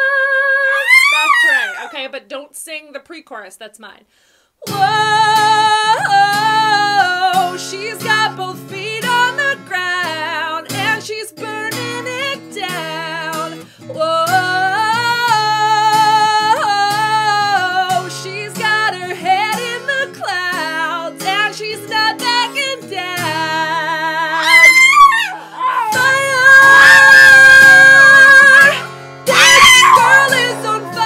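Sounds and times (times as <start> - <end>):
woman singing: 0.0 - 1.9, 4.6 - 31.0
acoustic guitar: 4.6 - 31.0.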